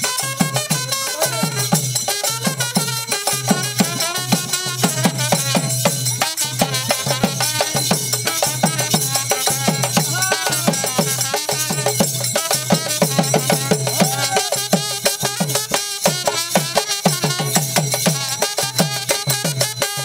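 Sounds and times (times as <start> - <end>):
barrel drum beaten fast: 0.0 - 20.0.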